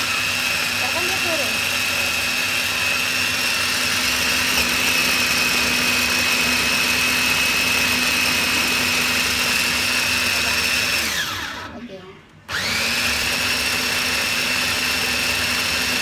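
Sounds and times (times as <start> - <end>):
food chopper motor whining: 0.0 - 11.8, 12.5 - 16.0.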